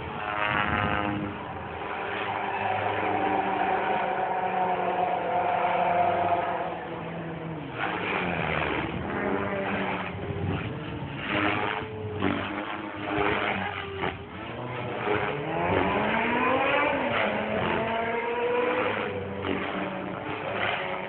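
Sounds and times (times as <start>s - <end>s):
rc helicopter motor and rotor whine: 0.0s - 3.6s, 6.1s - 21.0s.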